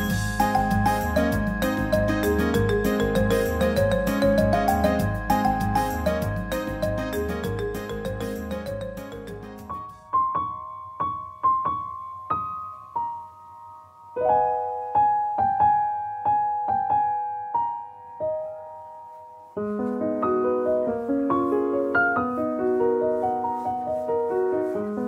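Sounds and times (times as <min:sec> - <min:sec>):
slow solo piano: 0:00.0 - 0:25.0.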